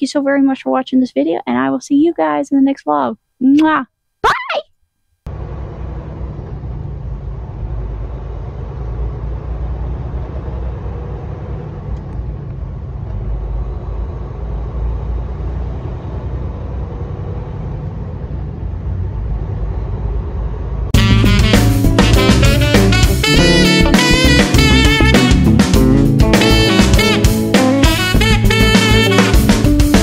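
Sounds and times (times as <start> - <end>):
truck engine and road drone: 5.3 - 30.0.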